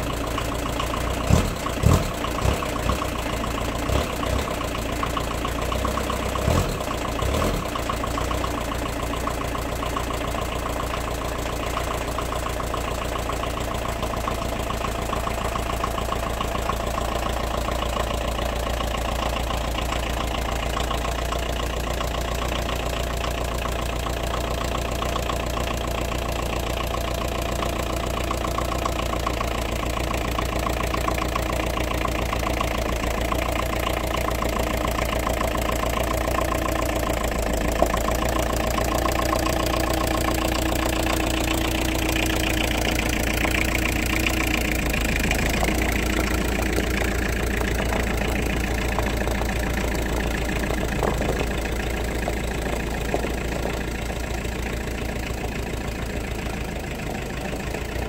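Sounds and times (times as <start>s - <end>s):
van engine idling: 0.0s - 58.0s.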